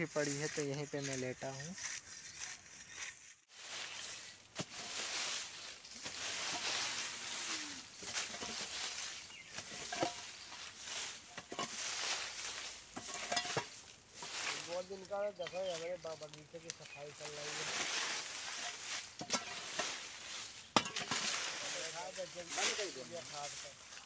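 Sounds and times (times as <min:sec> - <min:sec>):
brooms sweeping dry leaves: 0:00.0 - 0:24.0.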